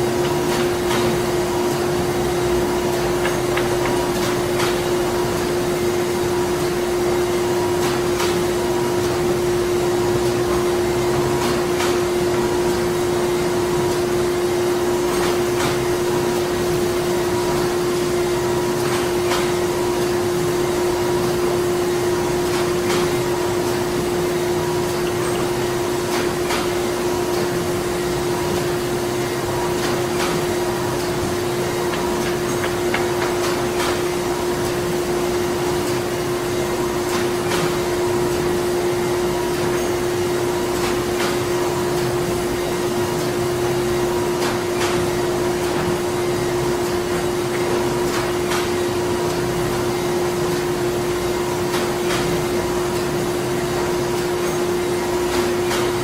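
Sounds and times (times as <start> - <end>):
machine drone with hum: 0.0 - 56.0.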